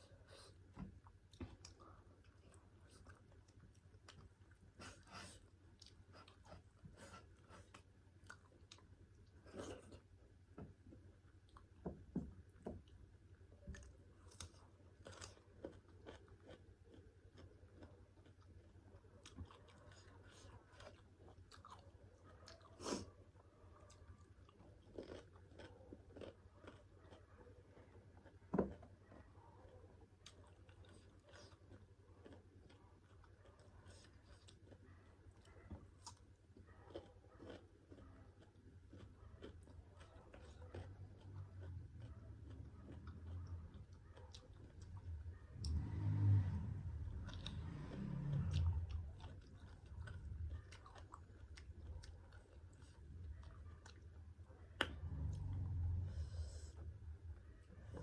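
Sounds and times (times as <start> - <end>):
person chewing food: 0.1 - 57.0.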